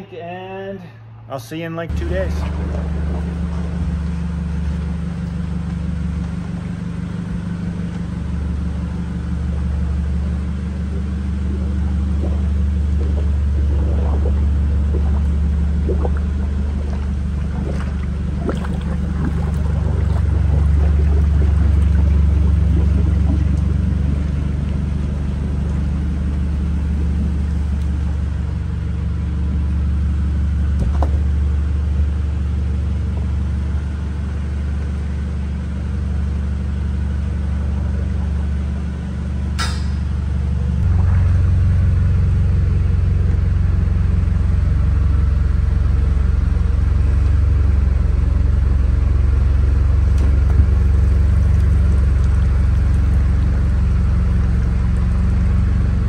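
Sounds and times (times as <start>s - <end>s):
forklift engine rumbling: 1.1s - 56.0s.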